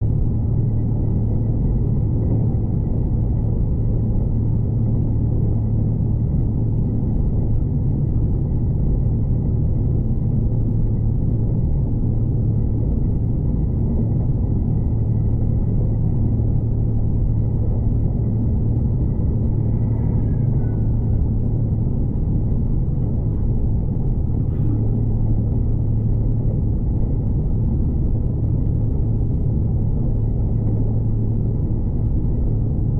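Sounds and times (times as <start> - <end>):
constant low hum: 0.0 - 32.9
train rumbling inside carriage: 0.0 - 32.9.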